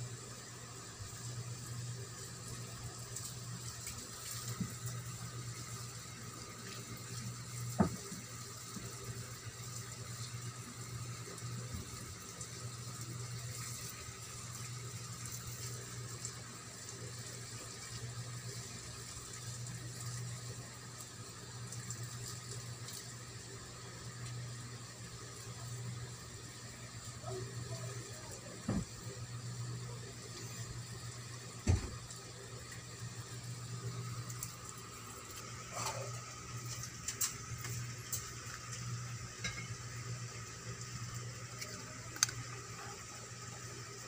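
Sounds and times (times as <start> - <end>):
room hum and hiss: 0.0 - 44.0.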